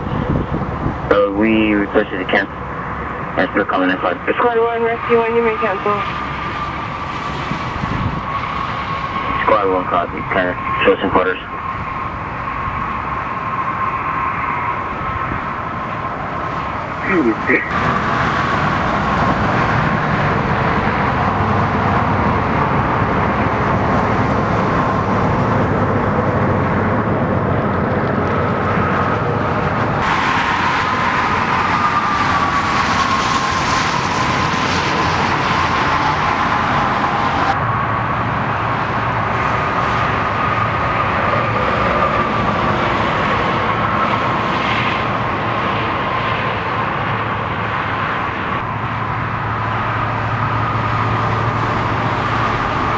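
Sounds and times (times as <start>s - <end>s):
motor vehicle noise: 0.0s - 52.9s.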